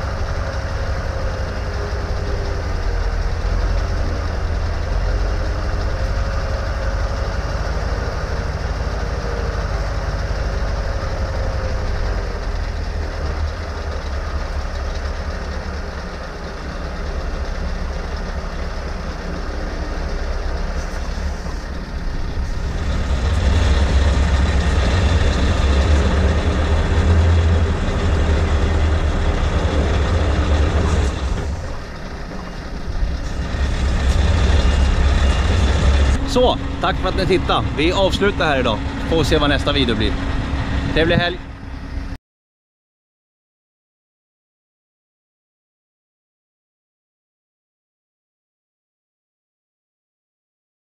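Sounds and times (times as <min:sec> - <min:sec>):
diesel truck engine rumble: 0:00.0 - 0:42.2.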